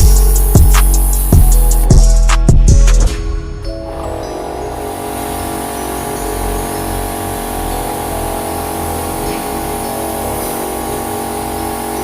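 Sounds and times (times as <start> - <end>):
water jet hissing: 0.0 - 1.9, 4.2 - 12.0
pressure washer motor hum: 0.0 - 2.2, 3.6 - 12.0.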